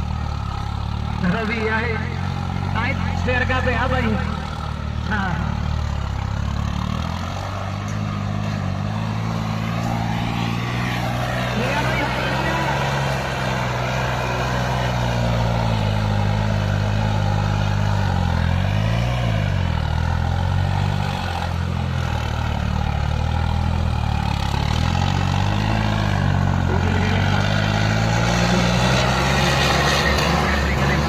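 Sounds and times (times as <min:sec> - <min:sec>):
diesel tractor engines running: 0:00.0 - 0:31.0.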